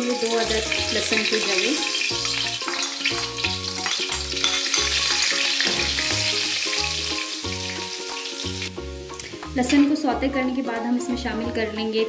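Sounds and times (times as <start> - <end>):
garlic sizzling in hot oil: 0.0 - 10.2
background music with bass line: 2.1 - 12.0.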